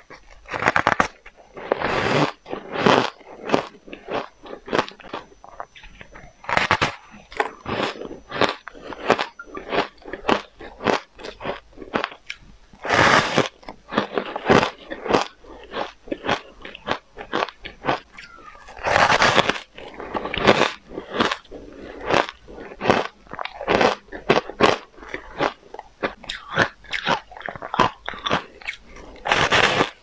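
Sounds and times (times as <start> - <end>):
ice crunching while chewed: 0.0 - 30.0.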